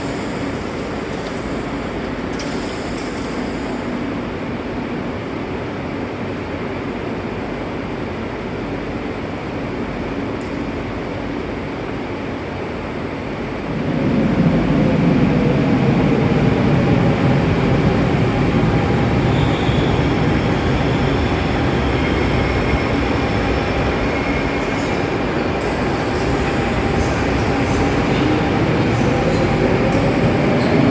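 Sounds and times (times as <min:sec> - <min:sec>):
train rumble: 0:00.0 - 0:30.9.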